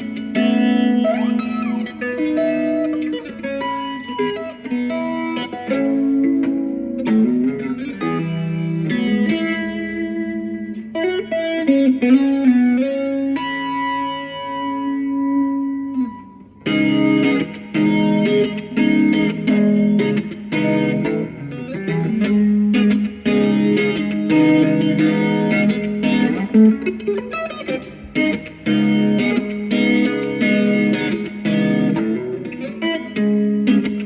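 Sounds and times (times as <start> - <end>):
guitar plucking a melody: 0.0 - 34.0.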